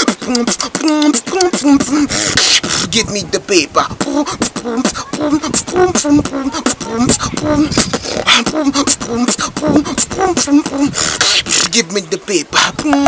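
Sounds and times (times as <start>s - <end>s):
man beatboxing: 0.0s - 13.0s.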